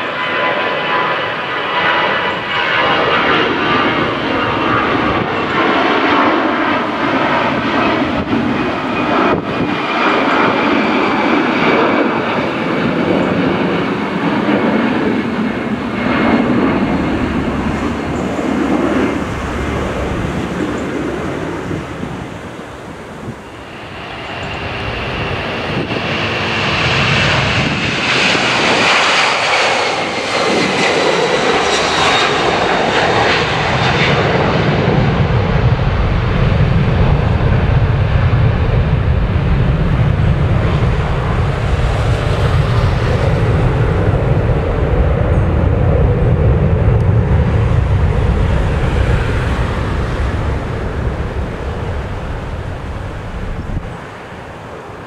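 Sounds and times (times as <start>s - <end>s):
jet airliner approaching with engine whine: 0.0s - 55.0s
jet airliner climbing: 0.0s - 55.0s.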